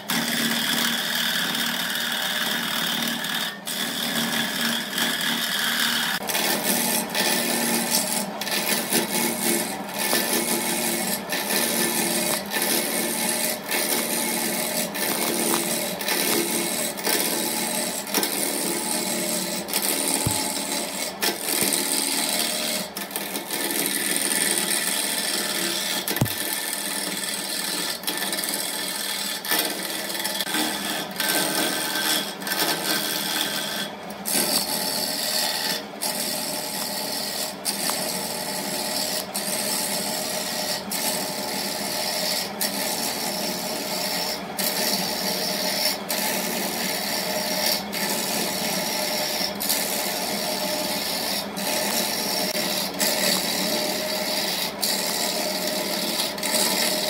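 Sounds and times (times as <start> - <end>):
wood lathe turning tool scraping: 0.0 - 57.0.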